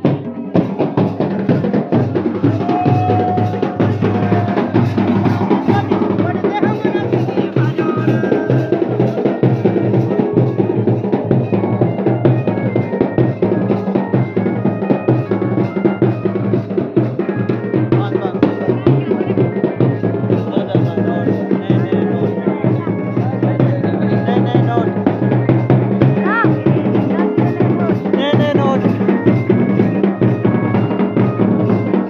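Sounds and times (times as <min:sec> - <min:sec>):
dense drumming: 0:00.0 - 0:32.0.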